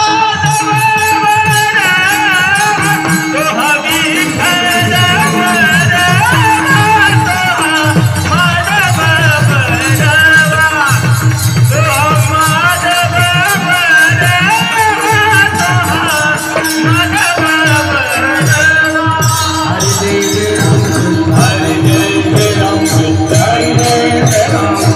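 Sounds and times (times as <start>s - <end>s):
metallic jingling percussion: 0.0s - 24.9s
voices singing: 0.0s - 24.9s.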